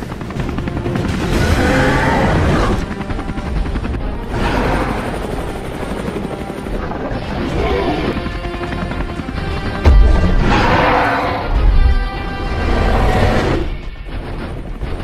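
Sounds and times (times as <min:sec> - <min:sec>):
film soundtrack music: 0:00.0 - 0:15.0.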